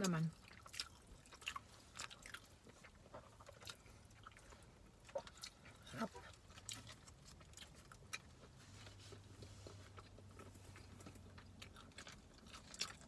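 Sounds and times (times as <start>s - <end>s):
chewing soft buns: 0.0s - 13.0s.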